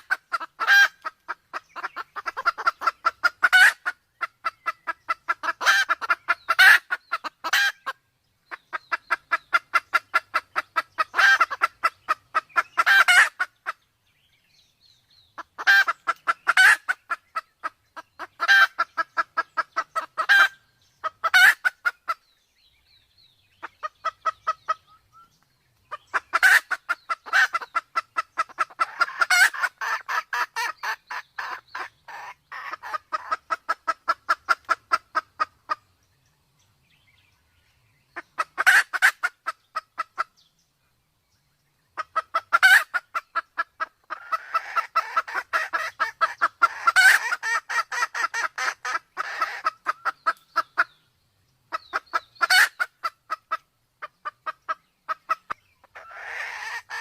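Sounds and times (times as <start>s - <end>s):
hen clucking rapidly: 0.0s - 13.8s, 15.4s - 22.3s, 23.6s - 35.9s, 38.1s - 40.4s, 41.9s - 51.0s, 51.7s - 57.0s.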